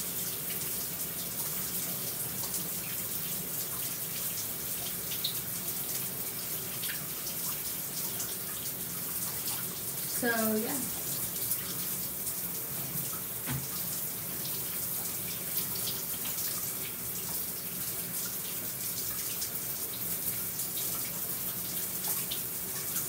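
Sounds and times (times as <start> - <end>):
shower spray running: 0.0 - 23.0.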